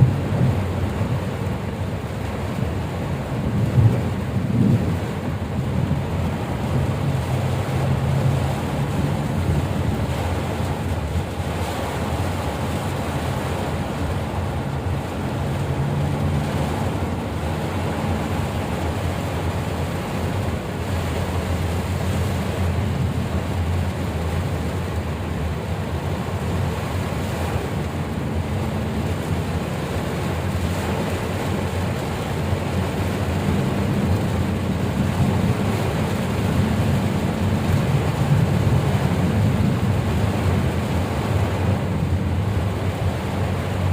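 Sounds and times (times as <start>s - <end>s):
heavy rain: 0.0s - 43.9s
low engine rumble: 0.0s - 43.9s
wind noise on microphone: 0.0s - 43.9s.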